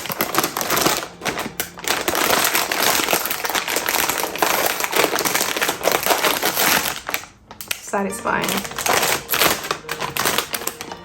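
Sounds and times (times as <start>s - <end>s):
foil snack bag crinkling: 0.0s - 11.0s.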